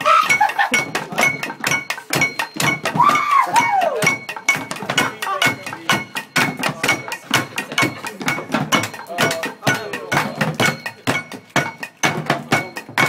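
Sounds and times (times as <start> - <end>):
voices: 0.0 - 11.4
hand drumming on trash can: 0.3 - 13.0.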